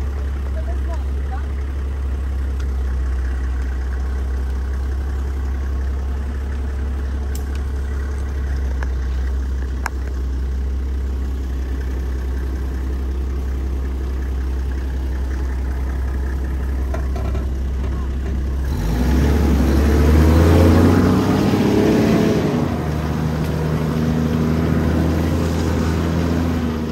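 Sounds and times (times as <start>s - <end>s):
car engine hum from inside: 0.0s - 26.9s.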